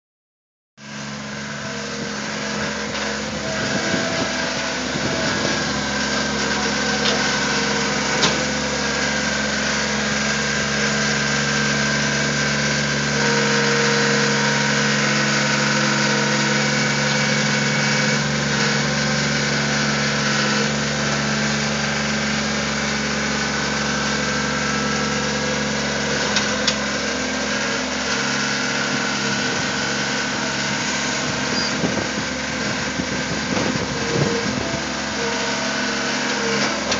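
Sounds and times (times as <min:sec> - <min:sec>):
loader engine running: 0:00.8 - 0:36.9.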